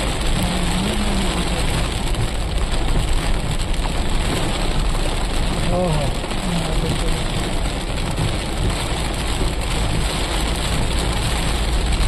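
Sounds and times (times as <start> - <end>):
engine and road rumble: 0.0 - 12.0
heavy rain on car: 0.0 - 12.0.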